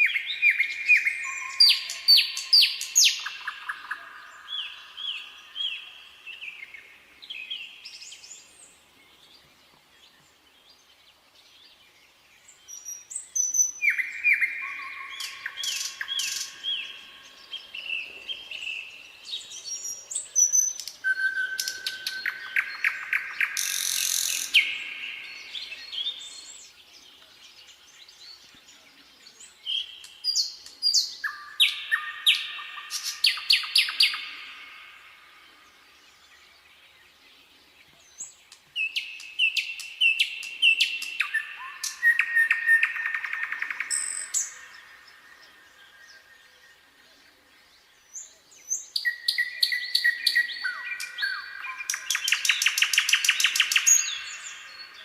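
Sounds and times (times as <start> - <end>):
nightingale singing: 0.0 - 55.0.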